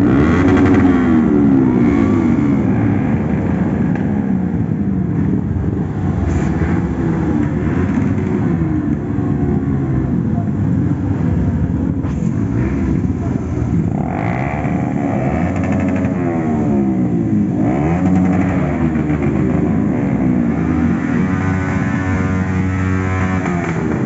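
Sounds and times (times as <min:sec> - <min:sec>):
motorcycle engine revving: 0:00.0 - 0:10.8, 0:11.7 - 0:24.0
motorcycle engines passing: 0:00.0 - 0:24.0.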